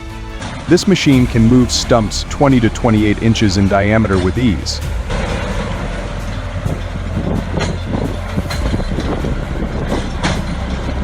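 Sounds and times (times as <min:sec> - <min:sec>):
heavy diesel machinery running: 0:00.0 - 0:11.0
knocks and clanks: 0:00.0 - 0:11.0.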